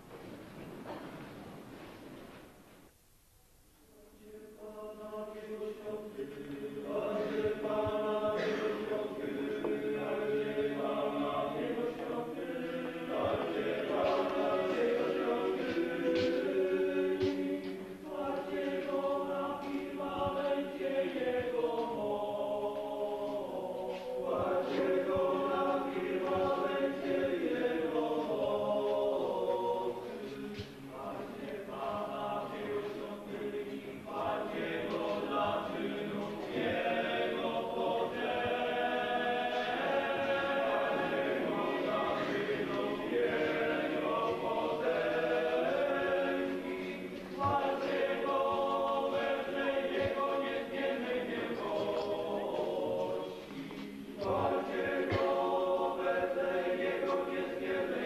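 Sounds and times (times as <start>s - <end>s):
group singing a slow hymn: 4.0s - 58.0s.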